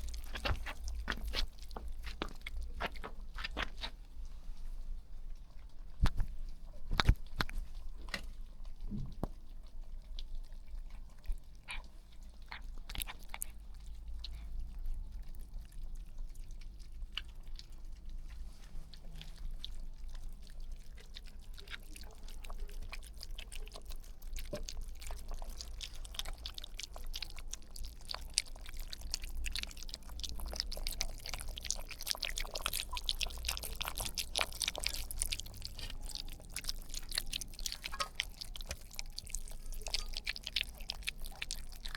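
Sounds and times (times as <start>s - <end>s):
low steady hum: 0.0s - 41.9s
puppies lapping and chewing: 0.0s - 41.9s.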